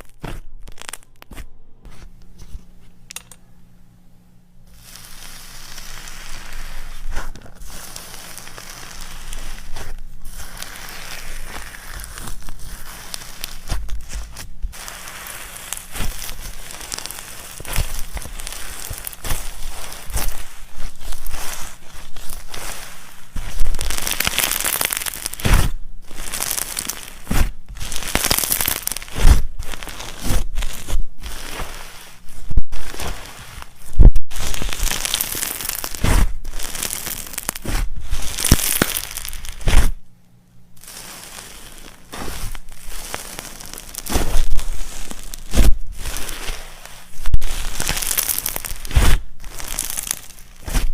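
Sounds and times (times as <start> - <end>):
slime crackling and popping: 0.0 - 1.4, 4.7 - 40.1, 40.7 - 50.9
slime squished and stretched: 4.7 - 40.0, 40.8 - 50.9.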